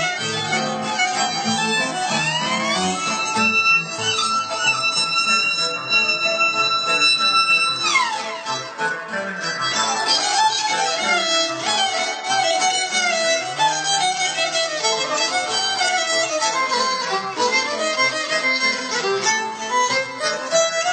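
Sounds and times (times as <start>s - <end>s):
violin dance music over loudspeakers: 0.0s - 20.9s.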